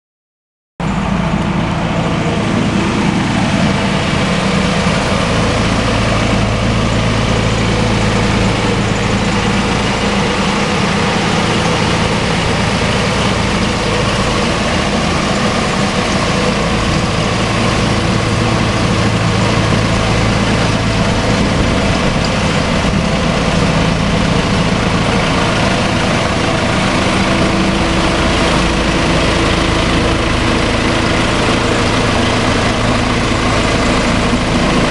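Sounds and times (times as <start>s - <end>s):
road sweeper suction rushing: 0.8s - 34.9s
tractor diesel engine running: 0.8s - 34.9s.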